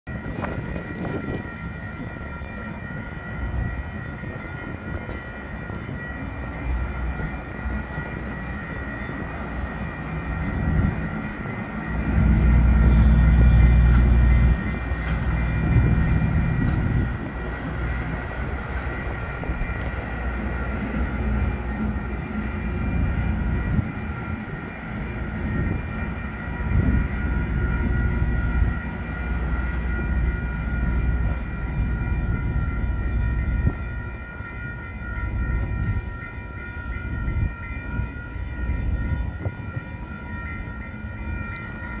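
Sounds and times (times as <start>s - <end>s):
crossing warning bell: 0.1s - 42.0s
diesel locomotives rumbling past: 0.1s - 42.0s.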